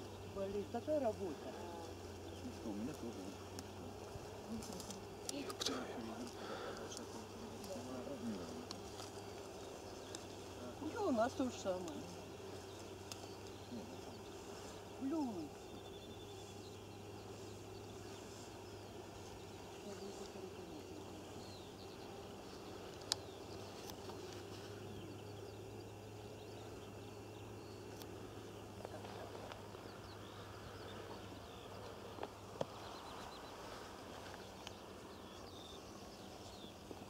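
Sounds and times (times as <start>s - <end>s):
steady low hum: 0.0s - 37.0s
faint bird chirps: 4.6s - 37.0s.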